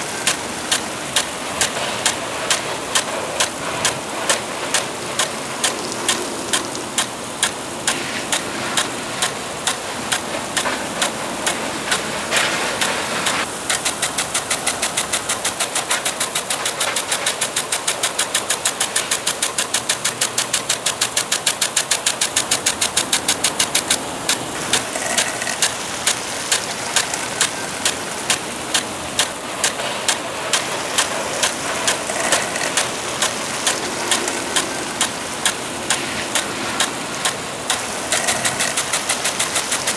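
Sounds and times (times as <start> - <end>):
impact sprinkler ticking: 0.0 - 39.9
water spray hissing: 0.0 - 39.9.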